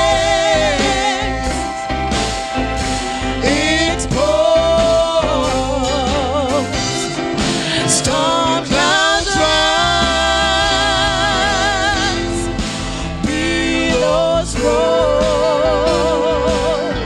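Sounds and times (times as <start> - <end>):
gospel backing music: 0.0 - 17.0
person singing with vibrato: 0.0 - 17.0.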